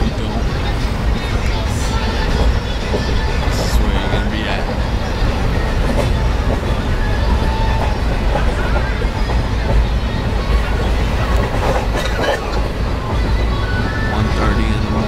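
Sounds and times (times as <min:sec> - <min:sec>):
murmur of voices: 0:00.0 - 0:15.0
train rumbling and rattling: 0:00.0 - 0:15.0.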